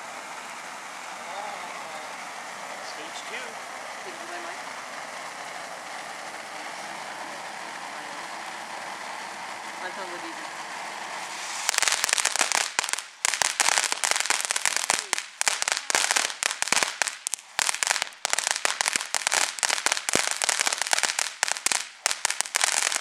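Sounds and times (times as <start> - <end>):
firework hissing spray: 0.0 - 23.0
firework sparks crackling: 0.0 - 23.0.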